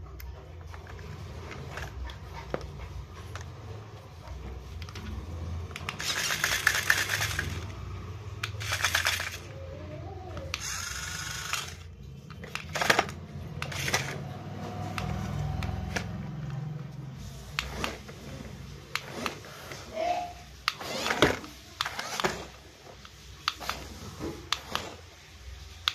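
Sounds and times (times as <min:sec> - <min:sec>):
toy car motors whirring: 0:00.7 - 0:02.6, 0:04.7 - 0:16.3, 0:17.4 - 0:25.1.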